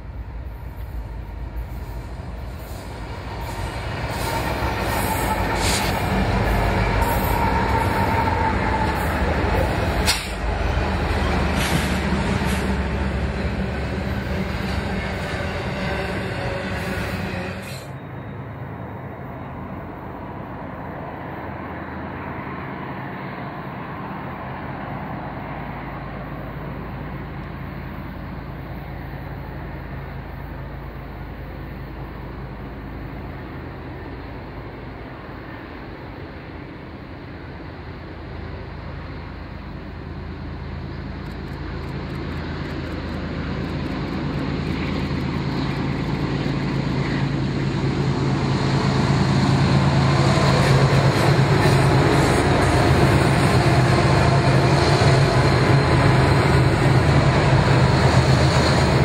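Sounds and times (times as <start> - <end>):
distant diesel locomotive drone: 0.0 - 59.0.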